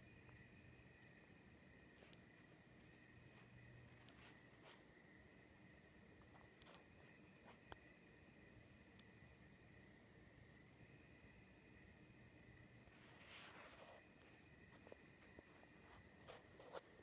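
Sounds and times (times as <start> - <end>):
night insects chirping: 0.0 - 17.0.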